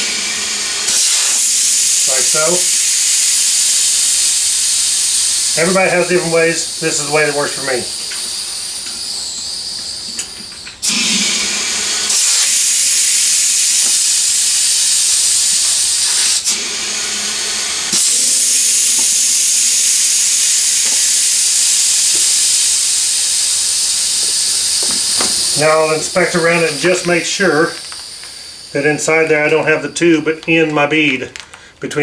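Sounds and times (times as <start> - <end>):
air hissing through valve stem: 0.0 - 30.4.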